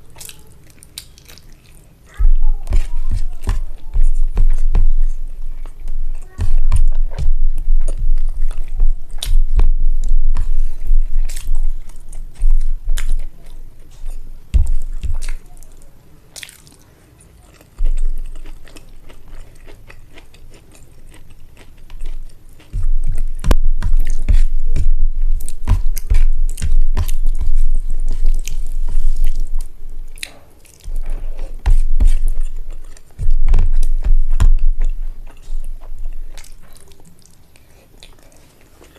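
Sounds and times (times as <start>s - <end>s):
close-miked wet chewing: 0.0s - 38.9s.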